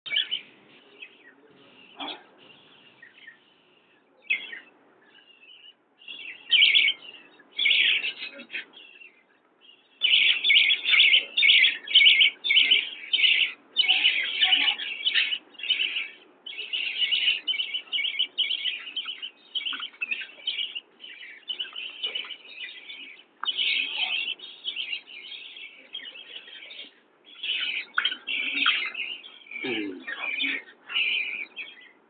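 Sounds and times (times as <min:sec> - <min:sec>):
budgerigars chattering and warbling: 0:00.1 - 0:32.0.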